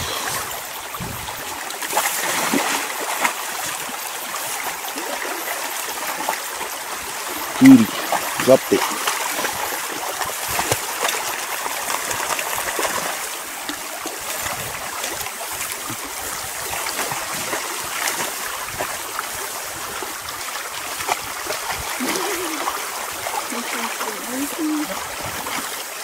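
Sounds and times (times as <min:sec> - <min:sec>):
creek trickling: 0:00.0 - 0:26.0.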